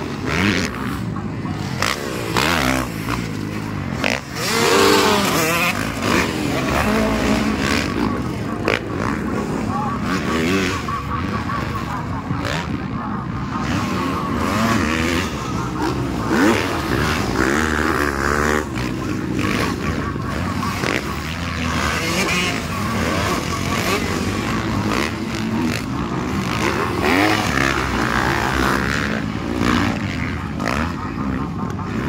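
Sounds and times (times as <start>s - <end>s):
dirt bike engines revving: 0.0s - 32.0s.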